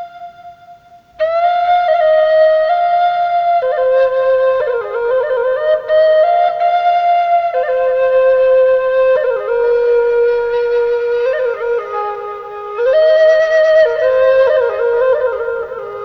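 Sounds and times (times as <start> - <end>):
flute-like melody: 0.0 - 16.0.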